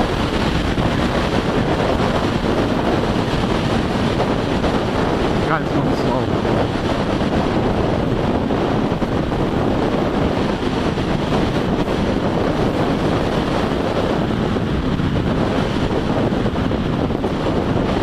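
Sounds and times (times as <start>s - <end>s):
motorcycle engine running: 0.0s - 5.7s, 6.3s - 18.0s
road noise: 0.0s - 18.0s
wind buffeting microphone: 0.0s - 18.0s.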